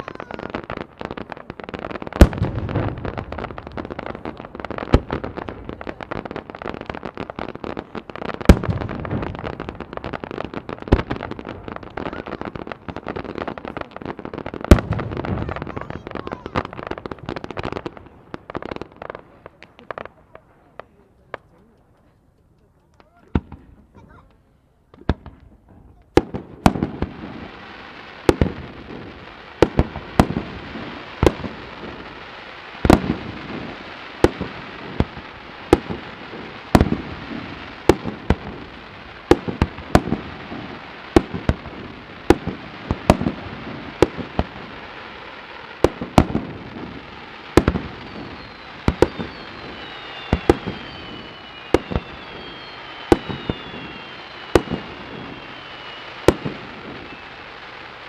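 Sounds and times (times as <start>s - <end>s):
fireworks falling whistles: 0.0s - 22.1s, 22.9s - 58.0s
fireworks bangs: 0.0s - 58.0s
fireworks crackle and rumble: 0.0s - 58.0s.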